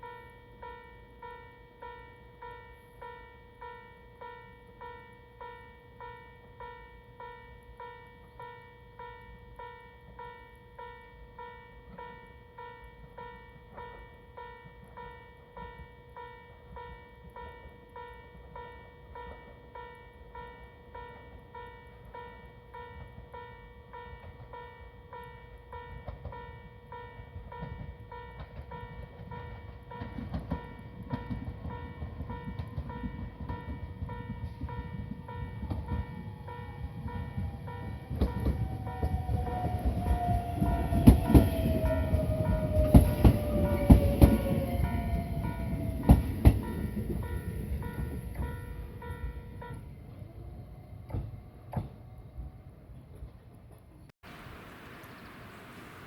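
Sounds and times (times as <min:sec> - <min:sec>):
level-crossing warning bell dinging: 0:00.0 - 0:51.3
low rumble of approaching train: 0:00.0 - 0:56.0.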